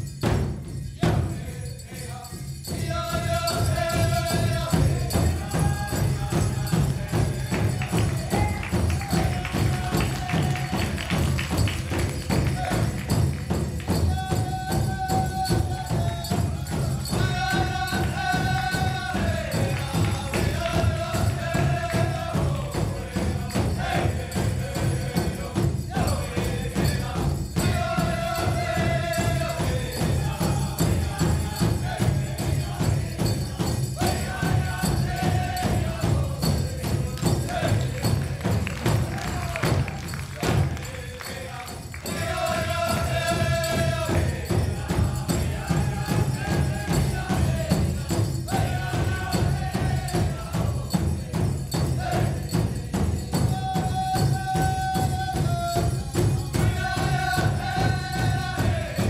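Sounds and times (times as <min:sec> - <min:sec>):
steady drumbeat: 0:00.0 - 0:59.0
chanted singing: 0:01.0 - 0:59.0.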